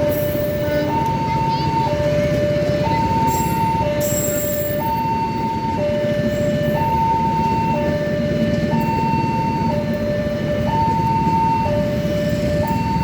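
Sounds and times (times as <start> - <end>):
two-tone level-crossing siren: 0.0 - 13.0.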